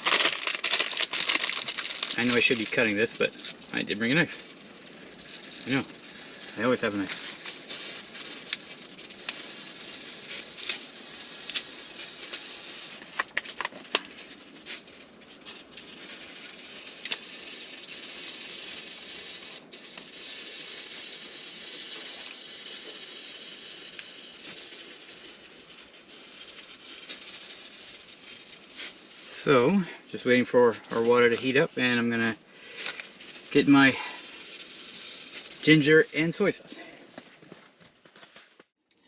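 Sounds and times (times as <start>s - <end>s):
pot hissing on stove: 0.0s - 36.7s.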